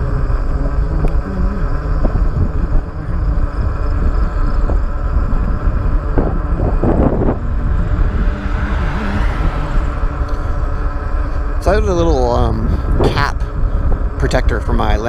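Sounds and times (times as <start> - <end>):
road noise: 0.0 - 15.0
wind rumbling over microphone: 0.0 - 15.0.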